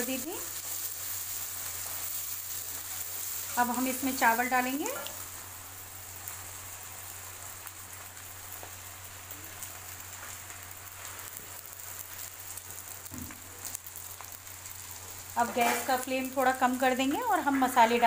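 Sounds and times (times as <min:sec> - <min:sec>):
vegetables sizzling in a pan: 0:00.0 - 0:18.0.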